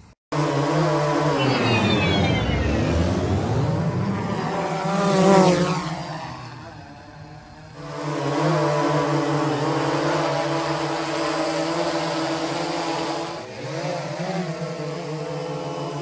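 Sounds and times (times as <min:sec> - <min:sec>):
drone propellers whirring: 0:00.0 - 0:16.0.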